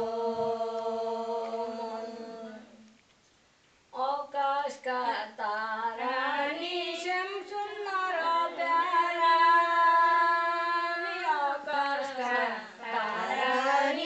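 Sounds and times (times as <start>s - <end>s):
women singing in unison: 0.0s - 2.9s, 4.0s - 14.0s.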